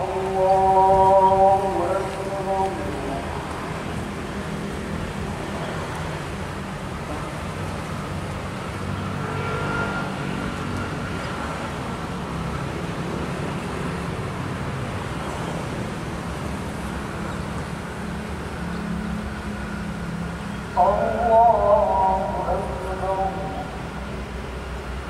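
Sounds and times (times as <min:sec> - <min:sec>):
traffic noise: 0:00.0 - 0:25.0.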